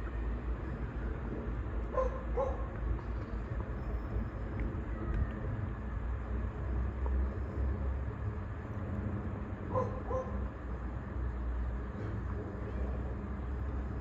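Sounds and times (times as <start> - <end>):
diesel train rumbling: 0.0 - 14.0.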